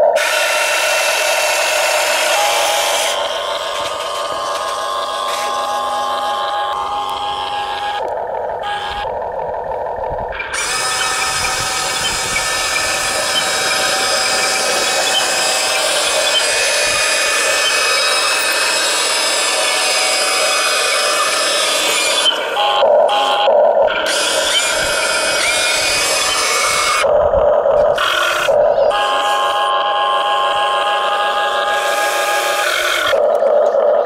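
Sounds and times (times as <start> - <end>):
electric motors whining: 0.0 - 34.0.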